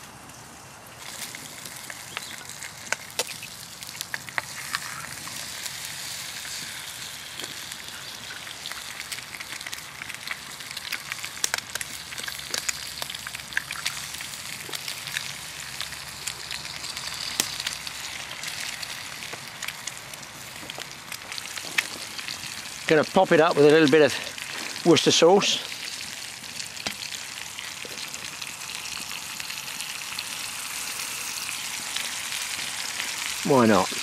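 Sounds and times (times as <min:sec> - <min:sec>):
wood fire crackling: 0:00.0 - 0:34.0
bacon and eggs sizzling in a pan: 0:00.9 - 0:34.0.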